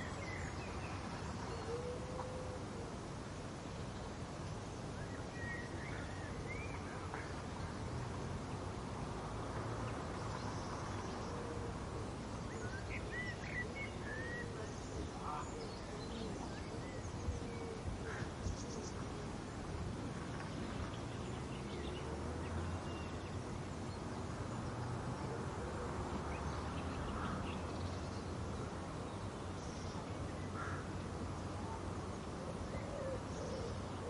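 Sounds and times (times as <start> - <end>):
steady background noise: 0.0 - 34.0.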